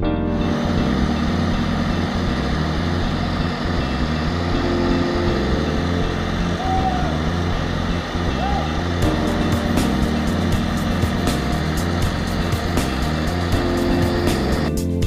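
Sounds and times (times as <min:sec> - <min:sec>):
diesel engine idling: 0:00.4 - 0:14.8.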